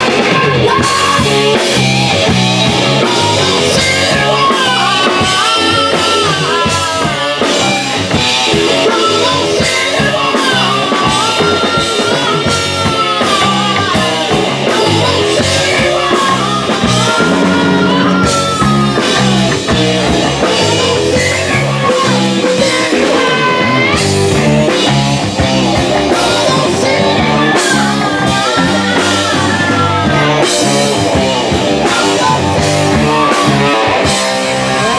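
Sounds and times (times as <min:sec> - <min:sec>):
bass guitar: 0:00.0 - 0:34.9
drum kit: 0:00.0 - 0:34.9
electric guitar melodic lines: 0:00.0 - 0:34.9.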